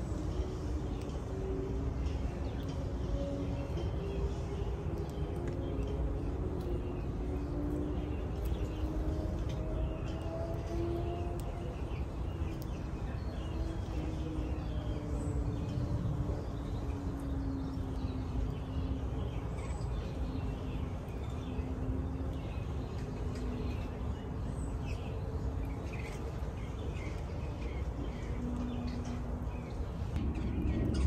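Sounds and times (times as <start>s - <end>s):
birds chirping: 0.0s - 31.0s
faint wavering hum: 0.0s - 31.0s
low background rumble: 0.0s - 31.0s.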